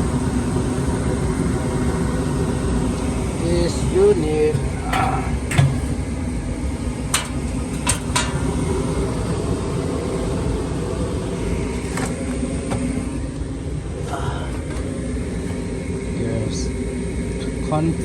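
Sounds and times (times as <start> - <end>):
furnace blower low rumble: 0.0 - 18.0.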